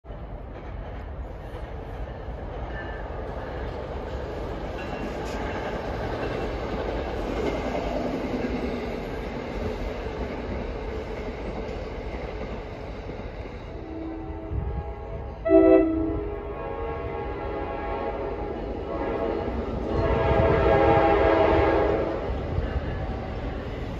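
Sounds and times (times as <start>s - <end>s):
train wheels rumbling on bridge: 0.0s - 23.9s.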